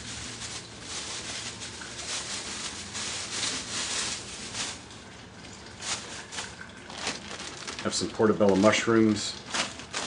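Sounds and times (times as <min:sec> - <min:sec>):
ingredients rustling on a table: 0:00.0 - 0:10.0.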